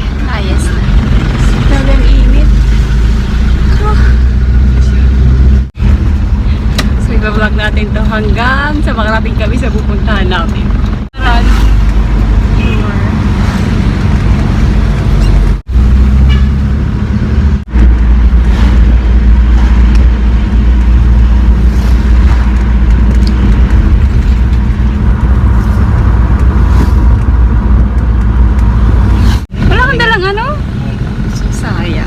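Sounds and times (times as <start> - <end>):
car interior road and engine noise: 0.0 - 32.0.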